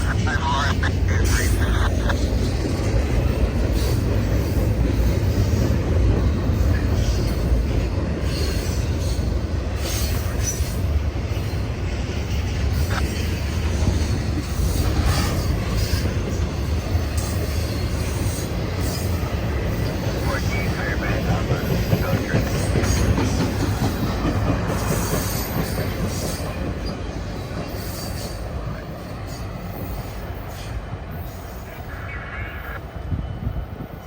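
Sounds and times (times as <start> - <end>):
freight cars rumbling on rails: 0.0 - 34.0.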